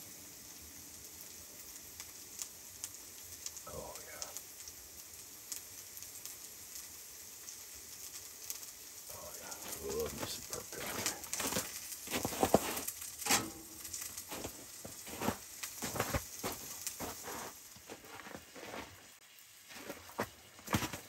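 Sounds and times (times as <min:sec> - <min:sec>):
faint hiss: 0:00.0 - 0:21.0
wood fire crackling and popping: 0:00.0 - 0:21.0.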